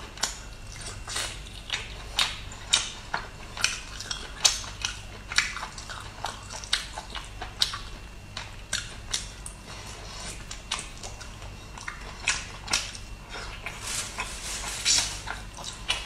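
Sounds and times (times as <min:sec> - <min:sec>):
chewing mouth noises: 0:00.2 - 0:16.0.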